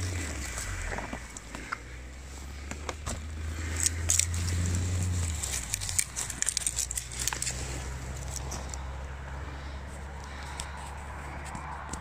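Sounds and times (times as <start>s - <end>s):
low steady rumble: 0.0s - 12.0s
twigs crackling and snapping: 0.0s - 12.0s.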